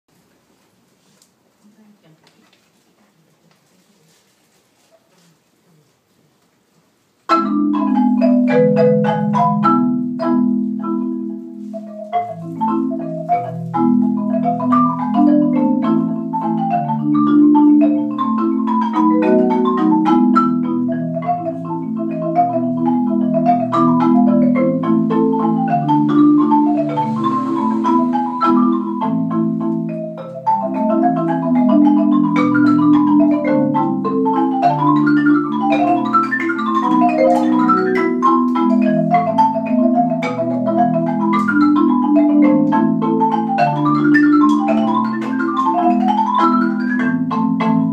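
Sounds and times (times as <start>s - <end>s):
marimba duet: 7.2s - 47.9s.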